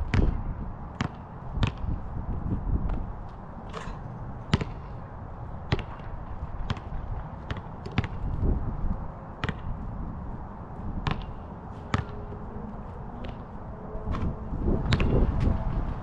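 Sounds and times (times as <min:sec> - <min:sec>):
basketball bouncing on asphalt: 0:00.0 - 0:12.4, 0:13.2 - 0:13.4, 0:14.1 - 0:15.5
wind rumble on microphone: 0:00.0 - 0:16.0.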